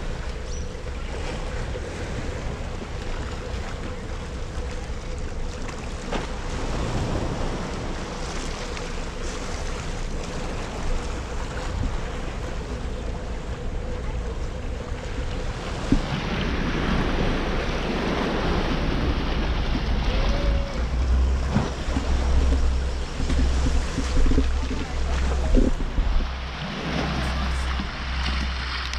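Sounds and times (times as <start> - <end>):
waves lapping around rocks: 0.0 - 28.9
wind buffeting microphone: 0.0 - 28.9.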